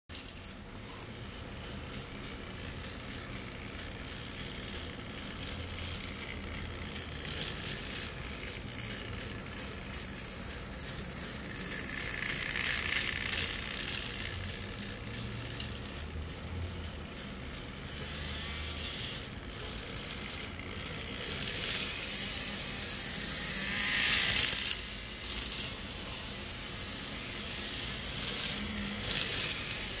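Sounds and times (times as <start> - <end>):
model streetcar motor whirring: 0.1 - 30.0.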